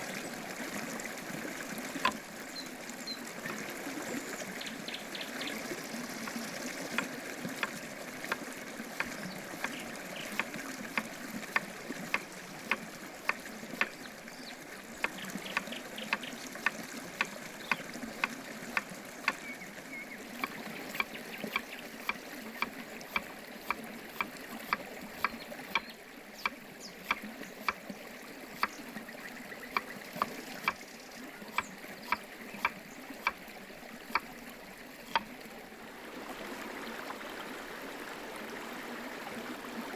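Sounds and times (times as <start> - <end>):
running water rush: 0.0 - 39.9.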